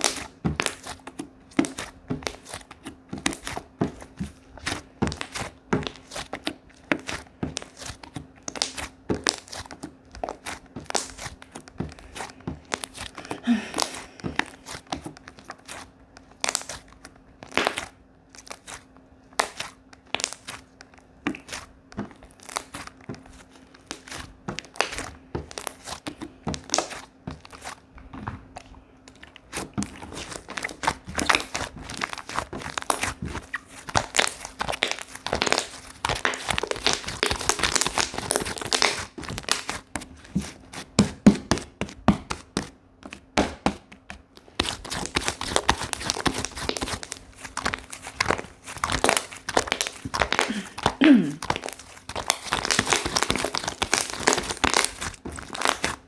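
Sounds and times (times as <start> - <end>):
slime crackling and popping: 0.0 - 56.0.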